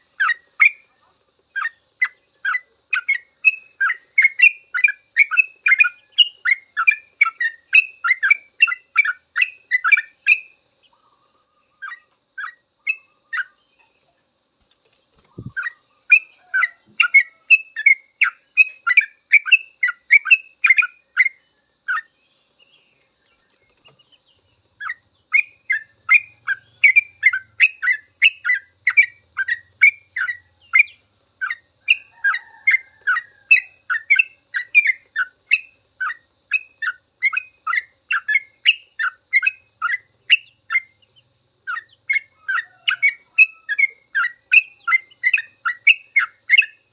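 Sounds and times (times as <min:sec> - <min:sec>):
bird singing chattering song: 0:00.0 - 0:46.9.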